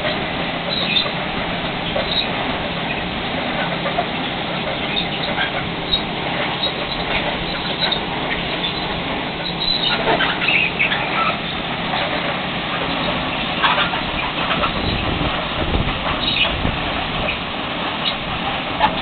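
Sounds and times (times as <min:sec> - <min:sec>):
metal and rock squeals and clinks: 0:00.0 - 0:15.1, 0:16.0 - 0:16.6.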